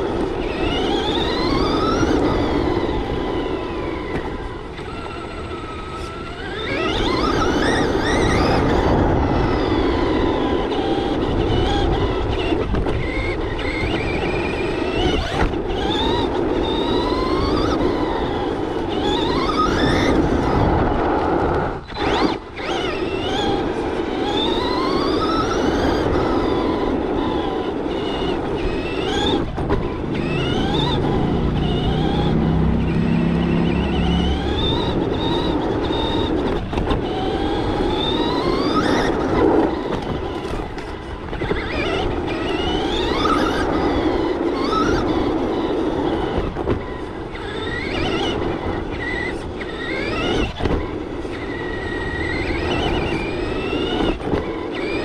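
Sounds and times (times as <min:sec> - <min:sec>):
electric motor whining: 0:00.0 - 0:55.0
tyres rumbling on gravel: 0:00.0 - 0:55.0.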